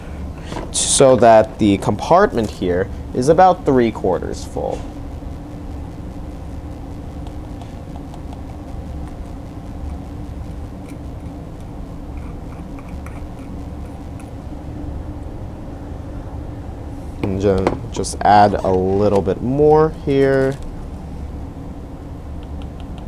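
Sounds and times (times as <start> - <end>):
low lab equipment hum: 0.0 - 23.0.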